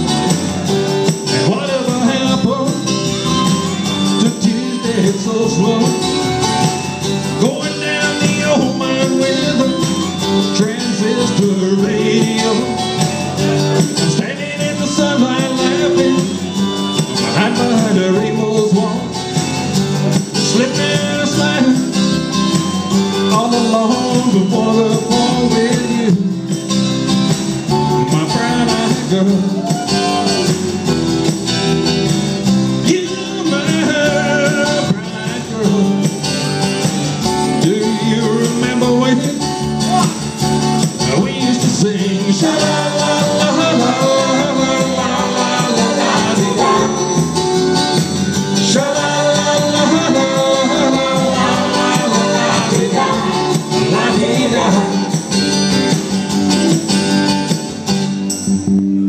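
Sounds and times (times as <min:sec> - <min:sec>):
backing music with guitar: 0:00.0 - 0:59.0
man singing into a microphone: 0:01.2 - 0:19.5, 0:20.2 - 0:26.7, 0:27.9 - 0:30.6, 0:32.8 - 0:36.4, 0:37.3 - 0:55.4.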